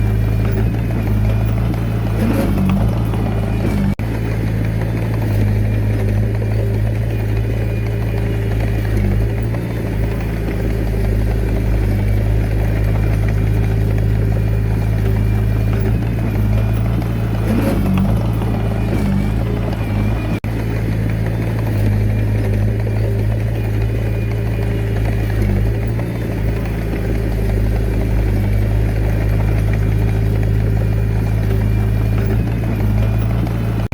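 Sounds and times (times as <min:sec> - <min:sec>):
diesel engine running steadily: 0:00.0 - 0:33.9.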